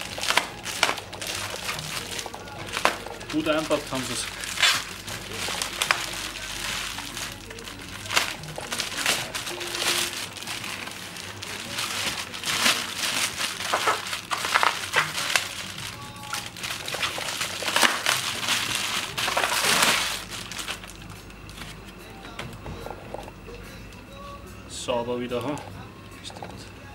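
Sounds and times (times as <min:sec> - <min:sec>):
plastic wrap crinkling: 0:00.0 - 0:24.3.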